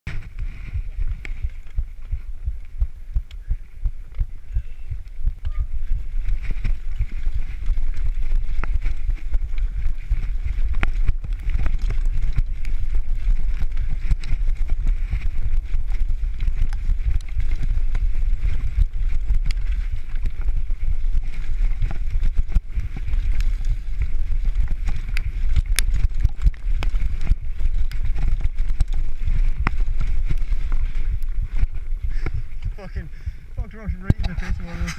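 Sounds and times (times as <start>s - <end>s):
bike clicks and rattles: 0.1s - 34.9s
wind on microphone: 0.1s - 34.9s.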